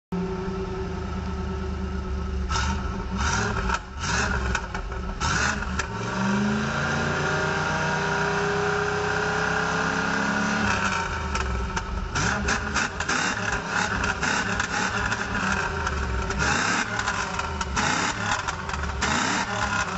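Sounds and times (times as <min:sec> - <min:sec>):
car engine idling and revving: 0:00.1 - 0:19.9.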